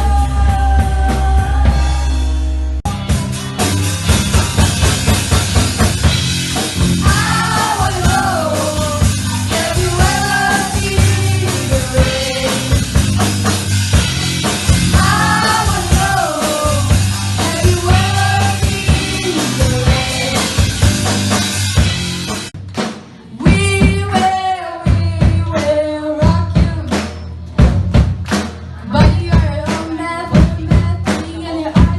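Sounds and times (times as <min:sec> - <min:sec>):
drum kit and bass beat: 0:00.0 - 0:31.9.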